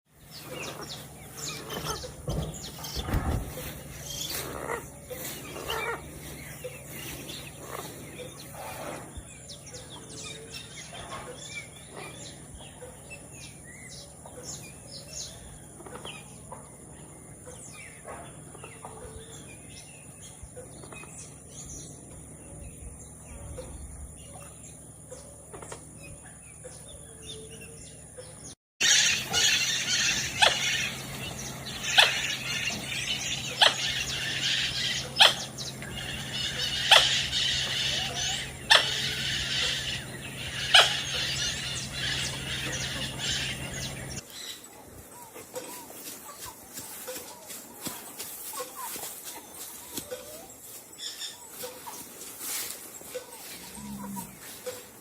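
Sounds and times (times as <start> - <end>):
birds chirping: 0.1 - 55.0
low background hum: 0.1 - 55.0.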